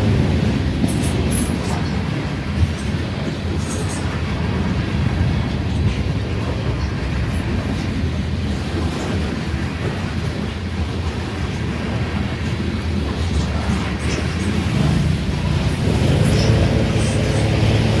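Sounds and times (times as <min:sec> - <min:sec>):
freight train rumbling on rails: 0:00.0 - 0:18.0.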